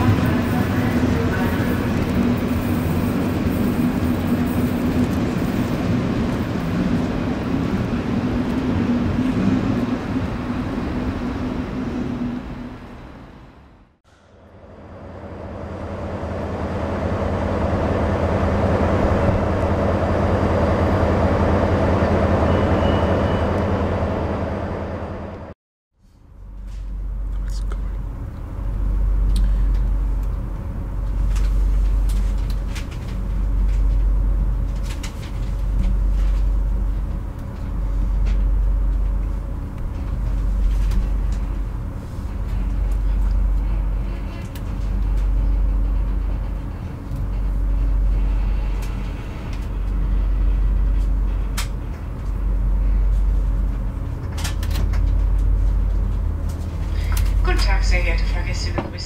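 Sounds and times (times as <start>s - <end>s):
train rumble inside coach: 0.0s - 59.0s.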